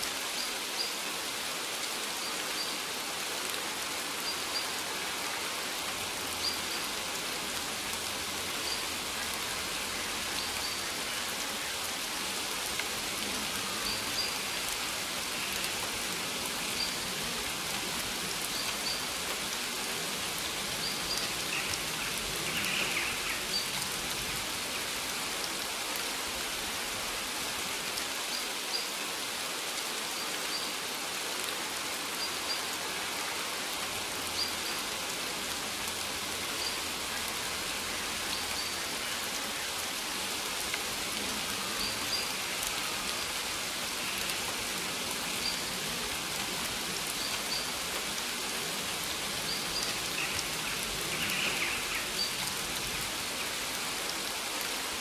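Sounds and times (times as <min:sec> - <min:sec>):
rain pattering on leaves: 0:00.0 - 0:55.0.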